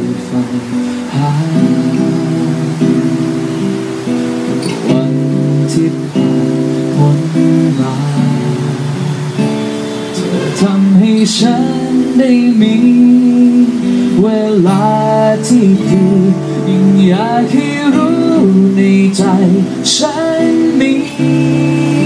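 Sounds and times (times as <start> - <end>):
acoustic guitar strumming: 0.0 - 22.0
man singing into a microphone: 0.0 - 22.0.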